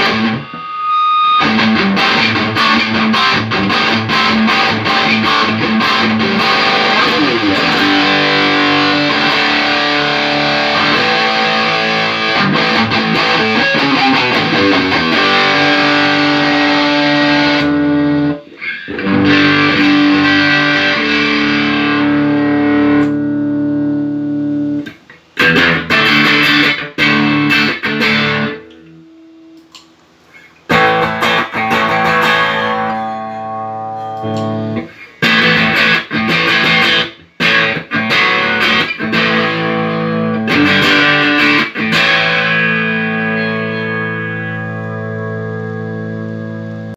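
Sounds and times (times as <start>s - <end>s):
distorted electric guitar chords: 0.0s - 29.9s, 30.6s - 46.9s.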